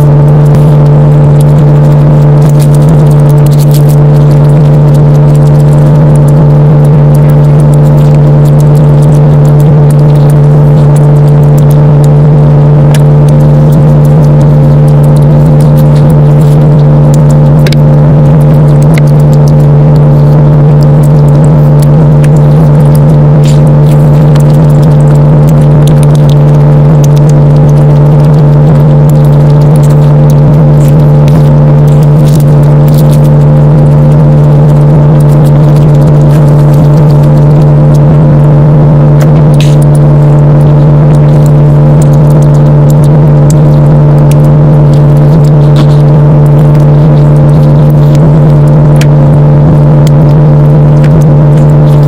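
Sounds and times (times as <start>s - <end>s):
faint clicks and crackles: 0.0s - 52.0s
low-pitched hum: 0.0s - 52.0s.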